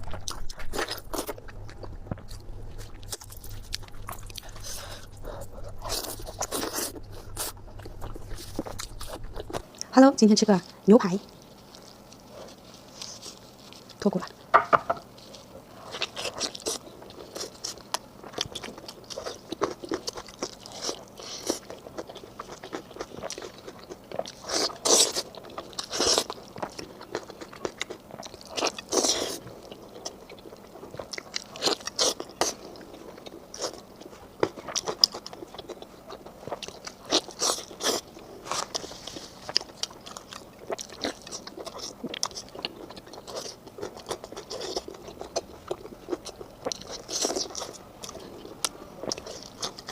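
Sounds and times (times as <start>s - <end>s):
person chewing meat: 0.0s - 9.9s, 11.3s - 49.9s.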